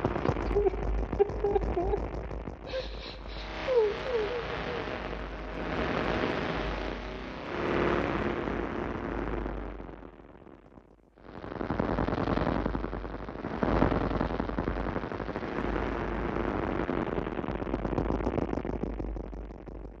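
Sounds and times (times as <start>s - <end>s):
distorted crackling noise music: 0.0s - 20.0s.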